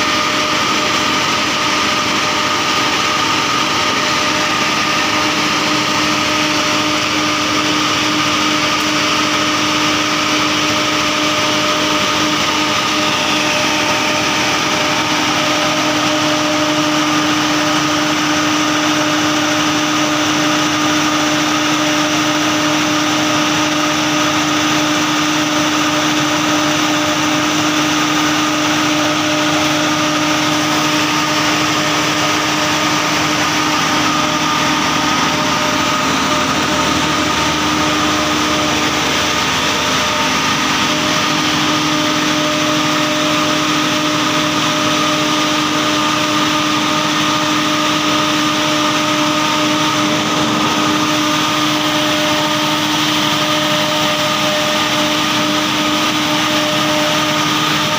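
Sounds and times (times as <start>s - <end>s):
diesel generator running: 0.0s - 57.9s.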